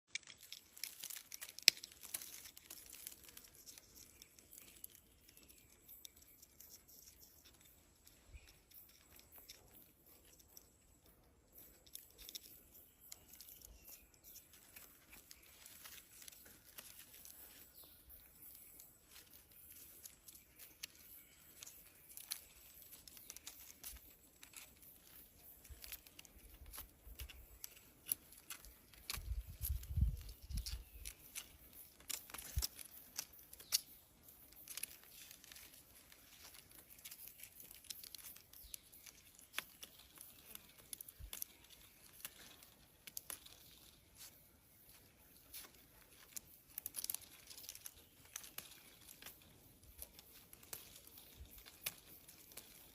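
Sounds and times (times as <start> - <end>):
faint crackling and rustling clicks: 0.1 - 52.9.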